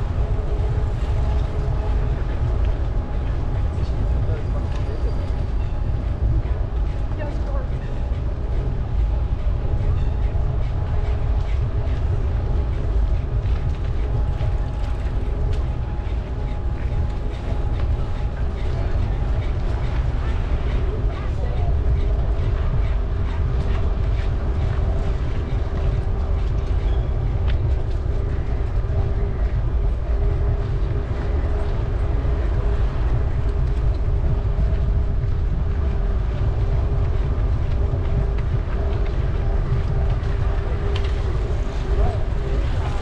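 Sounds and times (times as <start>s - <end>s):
bicycle tyres on path: 0.0s - 43.0s
faint constant hum: 0.0s - 43.0s
wind on microphone: 0.0s - 43.0s.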